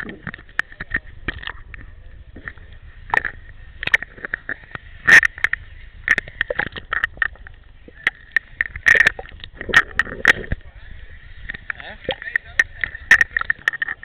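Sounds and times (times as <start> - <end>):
sharp clicks and knocks: 0.0 - 10.6, 11.4 - 14.0
water splashing and sloshing: 0.0 - 14.0.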